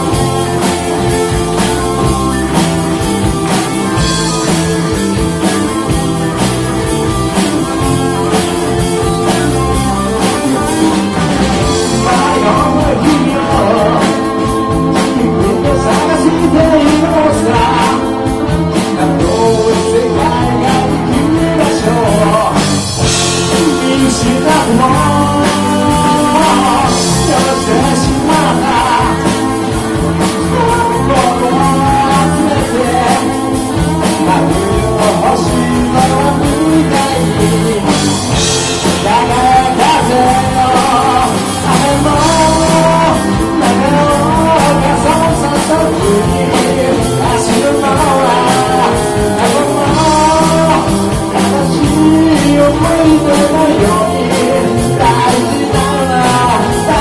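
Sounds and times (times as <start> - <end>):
lead vocal singing: 0.0 - 57.0
rock band playing: 0.0 - 57.0.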